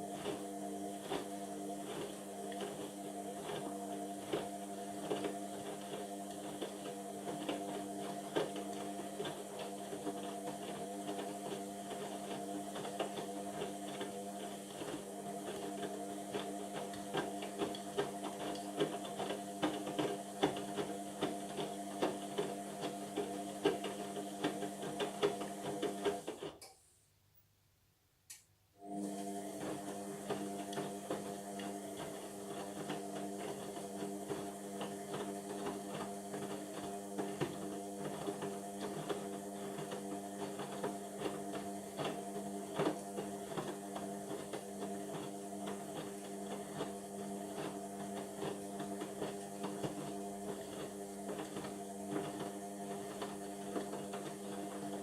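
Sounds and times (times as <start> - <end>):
washing machine motor humming: 0.0 - 26.4, 28.8 - 55.0.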